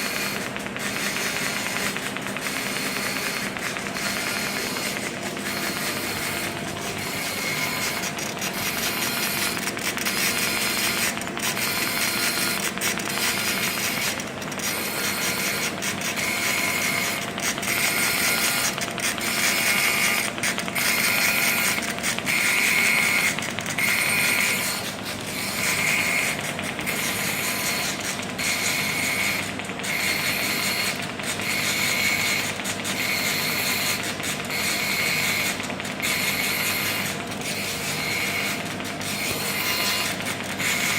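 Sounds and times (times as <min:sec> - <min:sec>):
welding arc buzzing hiss: 0:00.0 - 0:40.9.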